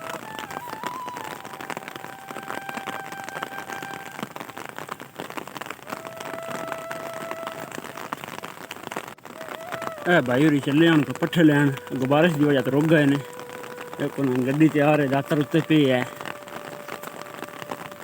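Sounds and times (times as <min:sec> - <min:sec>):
rain patter: 0:00.0 - 0:18.0.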